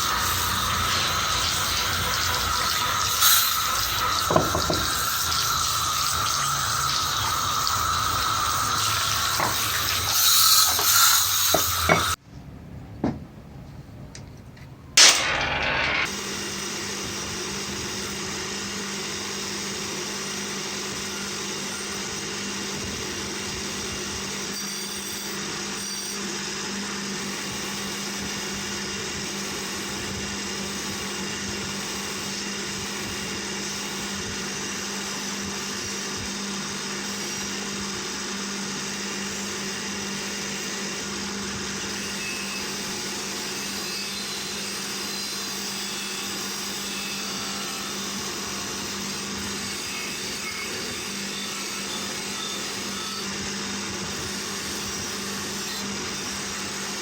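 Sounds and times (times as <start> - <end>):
handheld power tool humming: 0.0 - 12.2, 15.0 - 57.0.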